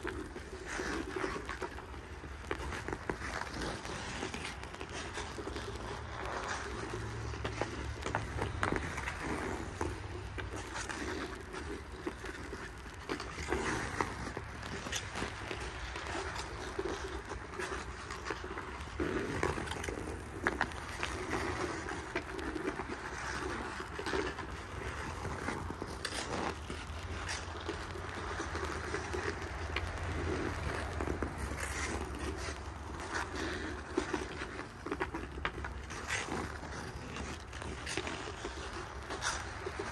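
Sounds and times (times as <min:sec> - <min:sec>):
skate blades scraping ice: 0:00.0 - 0:39.9.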